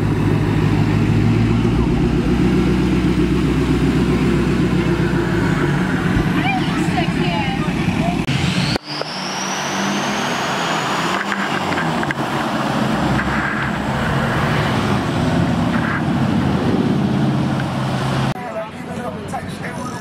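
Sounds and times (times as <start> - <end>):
diesel truck engines: 0.0 - 20.0.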